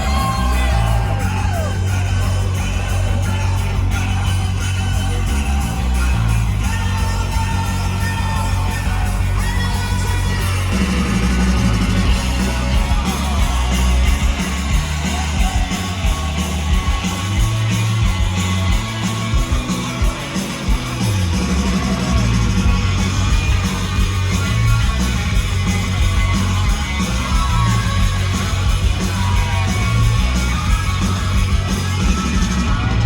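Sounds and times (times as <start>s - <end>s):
bass guitar: 0.0s - 33.0s
distorted electric guitars: 0.0s - 33.0s
fast drums: 0.0s - 33.0s.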